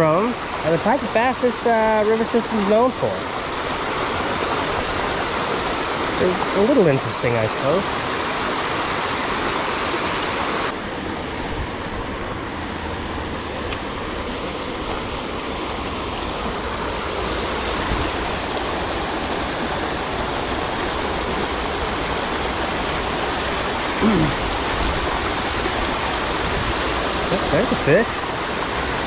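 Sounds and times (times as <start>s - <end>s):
water rushing over a spillway: 0.0s - 29.0s.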